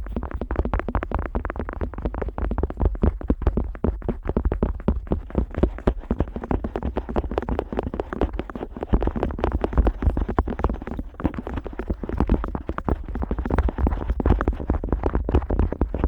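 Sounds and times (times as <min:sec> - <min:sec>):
crackling scrapes on microphone ear: 0:00.0 - 0:16.0.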